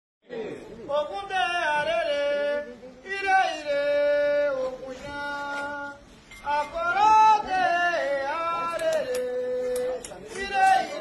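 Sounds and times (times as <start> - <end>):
person singing unaccompanied chant: 0.9 - 11.0.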